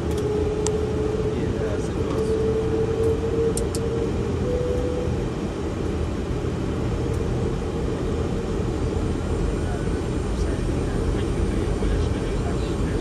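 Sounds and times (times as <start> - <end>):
airplane cockpit engine rumble: 0.0 - 13.0
steady whine: 0.0 - 13.0.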